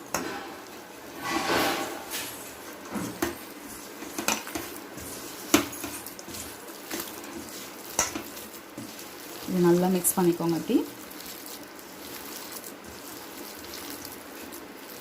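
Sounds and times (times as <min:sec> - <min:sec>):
mixture swishing in a bowl: 0:02.0 - 0:15.0.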